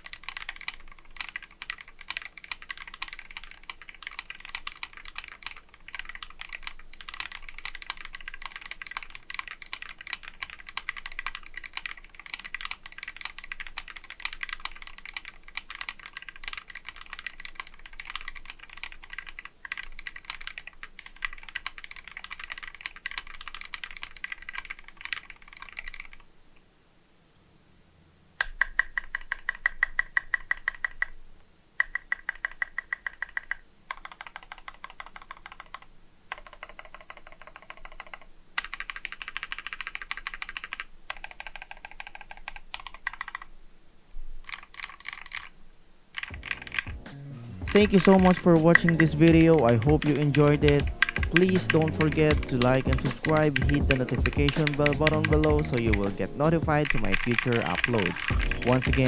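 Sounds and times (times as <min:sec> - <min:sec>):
fast mechanical keyboard typing: 0:00.0 - 0:26.2, 0:28.4 - 0:31.2, 0:31.8 - 0:43.5, 0:44.4 - 0:45.6, 0:46.2 - 0:59.0.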